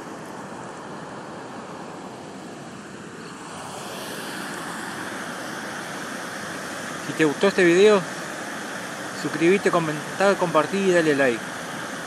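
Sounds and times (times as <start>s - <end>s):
rippling river water: 0.0s - 12.0s
wind: 0.0s - 12.0s.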